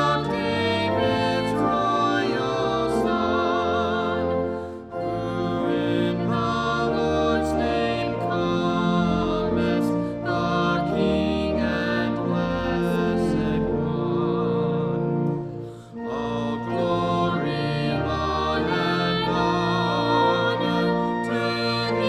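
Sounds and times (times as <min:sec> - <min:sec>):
slow church music: 0:00.0 - 0:22.0.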